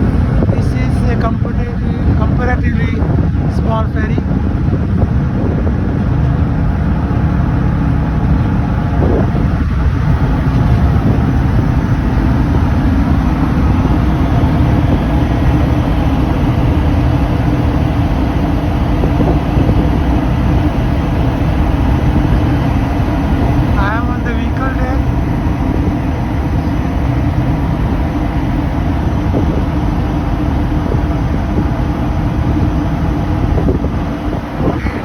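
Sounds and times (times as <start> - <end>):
ship engines rumbling: 0.0 - 35.0.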